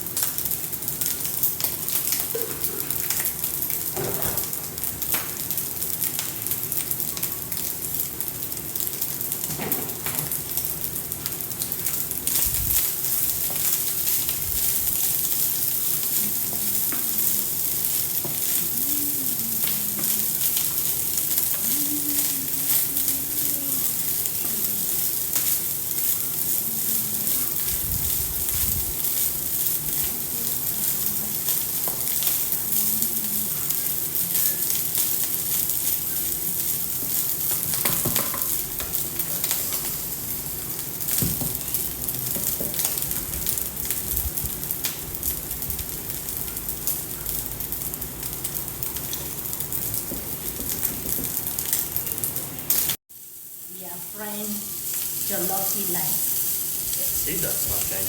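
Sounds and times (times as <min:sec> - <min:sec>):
rice sizzling in a pan: 0:00.0 - 0:58.0.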